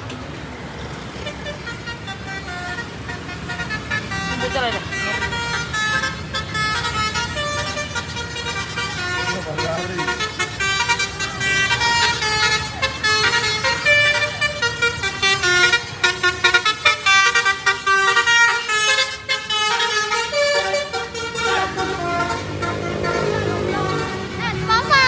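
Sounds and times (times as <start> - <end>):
musical bus horn tune: 1.2 - 25.0.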